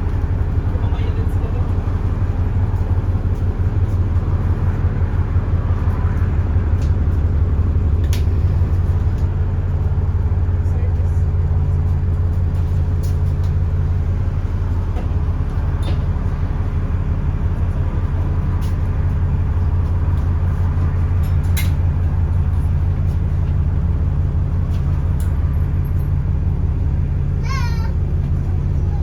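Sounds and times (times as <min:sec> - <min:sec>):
bus diesel engine droning: 0:00.0 - 0:29.0.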